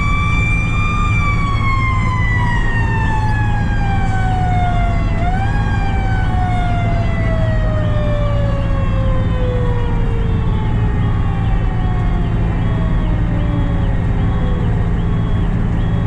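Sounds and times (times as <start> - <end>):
low engine drone: 0.0 - 16.0
mechanical siren winding down: 0.0 - 16.0
stepped up-and-down siren tone: 0.0 - 16.0.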